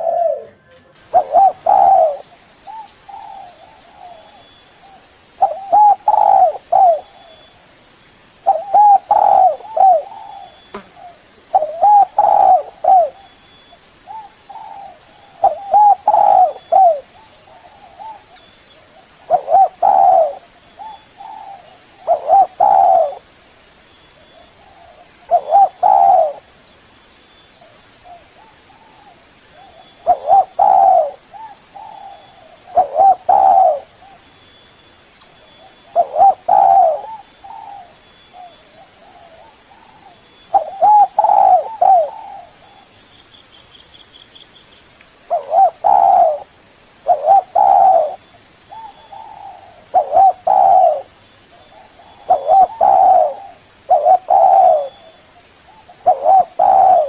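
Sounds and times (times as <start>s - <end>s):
dove cooing: 0.0s - 7.5s, 8.4s - 13.4s, 14.1s - 23.4s, 24.2s - 26.5s, 28.0s - 34.2s, 35.5s - 42.9s, 45.3s - 57.0s.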